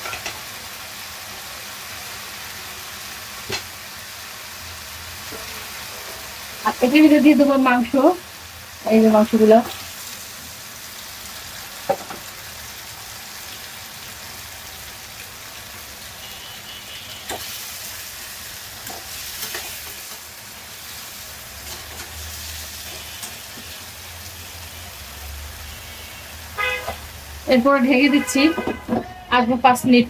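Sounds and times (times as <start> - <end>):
chicken frying in hot oil: 0.0 - 28.3.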